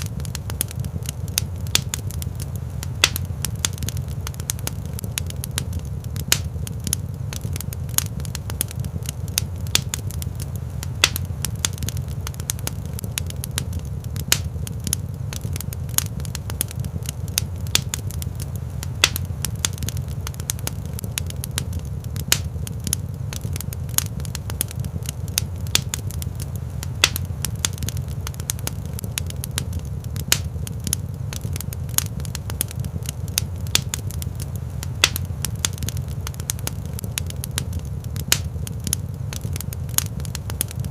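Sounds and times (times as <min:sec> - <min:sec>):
low rumble of burning fire: 0:00.0 - 0:40.9
wood fire crackling: 0:00.0 - 0:40.9.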